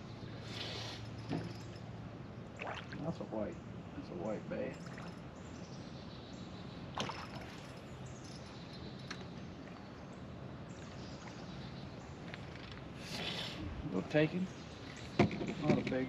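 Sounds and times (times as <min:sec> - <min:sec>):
low background noise on water: 0:00.0 - 0:16.0.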